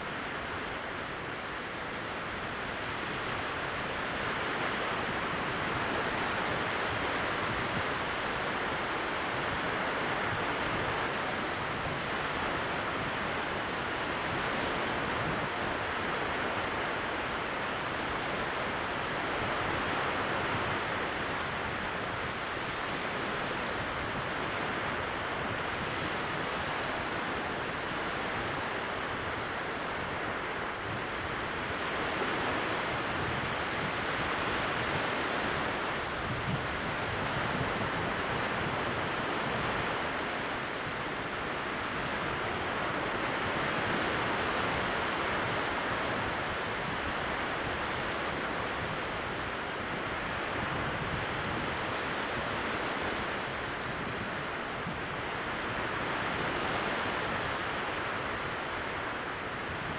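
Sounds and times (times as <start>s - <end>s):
small waves breaking softly: 0.0s - 59.9s.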